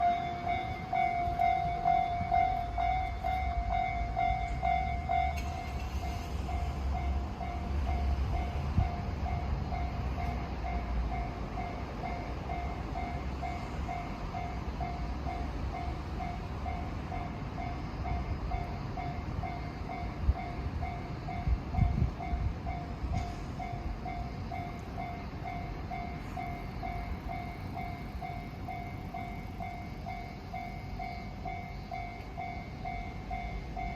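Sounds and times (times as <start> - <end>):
high-pitched alarm tone: 0.0 - 33.9
level-crossing warning bell: 0.0 - 33.9
train rumbling past: 0.0 - 33.9.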